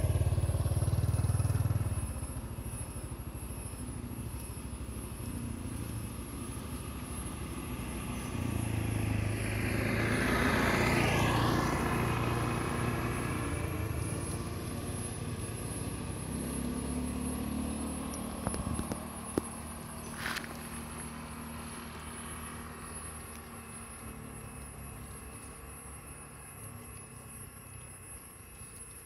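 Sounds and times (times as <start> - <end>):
motorbike passing: 0.0 - 27.2.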